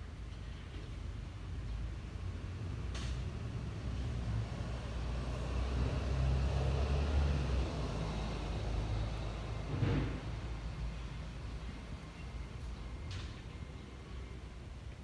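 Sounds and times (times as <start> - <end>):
vehicle passing with engine rumble: 0.2 - 15.0.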